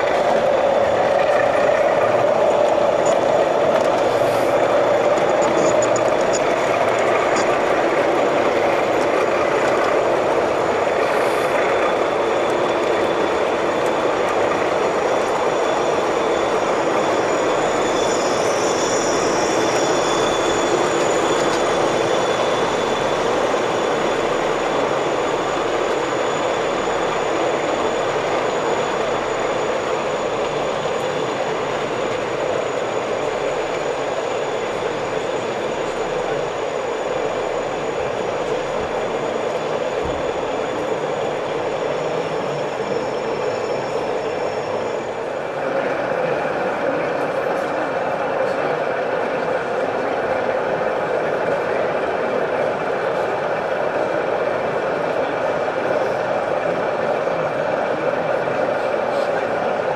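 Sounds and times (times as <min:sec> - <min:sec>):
model train running: 0:00.0 - 0:59.9.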